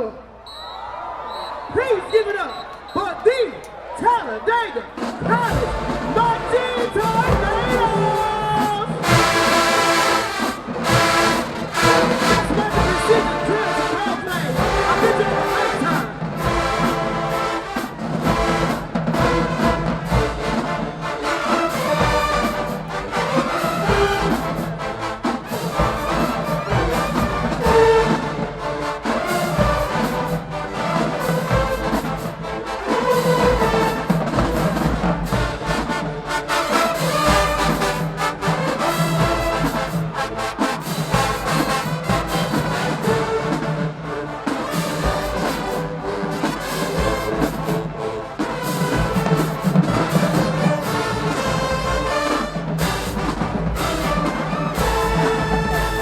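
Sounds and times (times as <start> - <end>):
brass section playing: 4.8 - 56.0
marching drums: 4.9 - 56.0.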